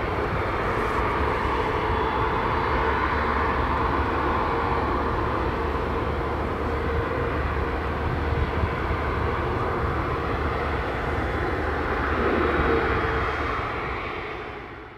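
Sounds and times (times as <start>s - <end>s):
jet engines running: 0.0s - 14.9s.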